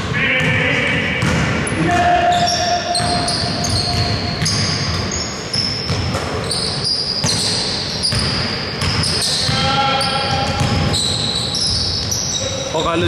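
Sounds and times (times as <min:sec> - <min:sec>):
basketball bouncing: 0:00.0 - 0:12.2
sneakers squeaking: 0:00.0 - 0:13.0.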